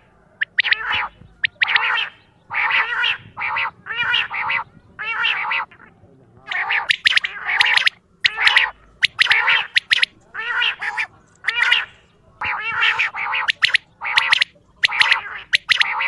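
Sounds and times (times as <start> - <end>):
quail calling: 0.0 - 16.0.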